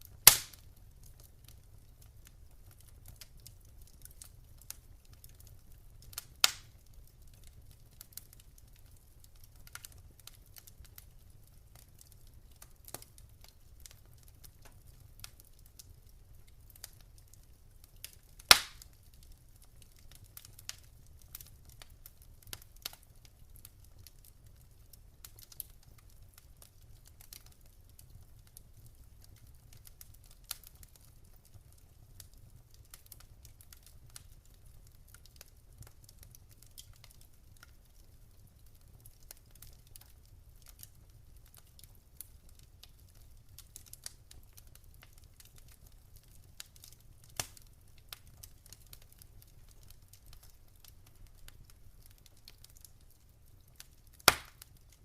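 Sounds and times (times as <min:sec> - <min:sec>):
fire snaps and pops: 0:00.0 - 0:55.0
wood fire crackling: 0:00.0 - 0:55.0.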